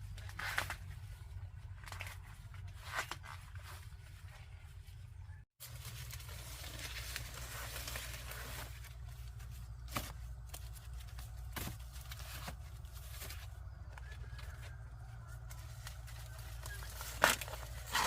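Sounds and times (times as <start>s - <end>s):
dry corn plants rustling: 0.0s - 18.0s.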